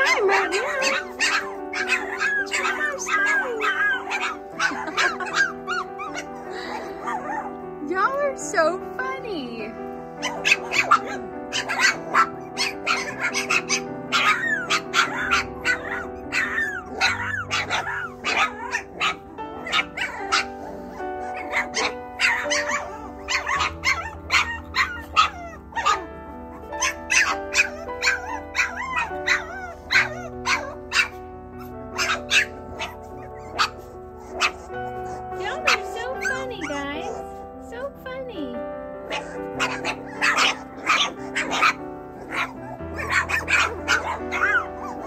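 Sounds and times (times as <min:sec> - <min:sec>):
background music: 0:00.0 - 0:45.0
puppies yipping and barking: 0:00.0 - 0:45.0.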